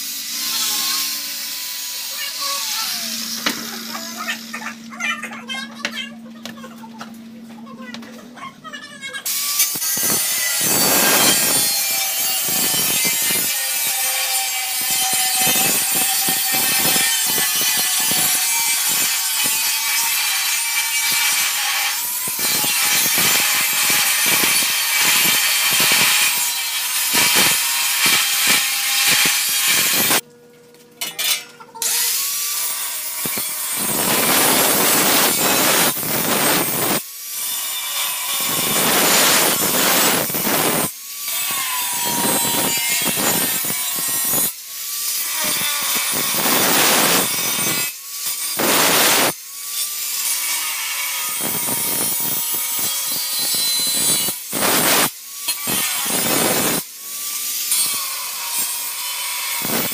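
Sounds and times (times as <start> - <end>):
angle grinder cutting steel sheet: 0.0 - 6.6, 8.8 - 30.2, 31.0 - 59.9.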